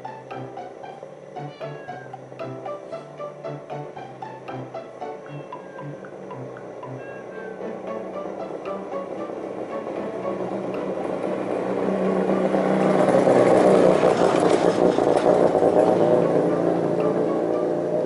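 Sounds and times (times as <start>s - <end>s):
vehicle engine passing: 0.0s - 18.0s.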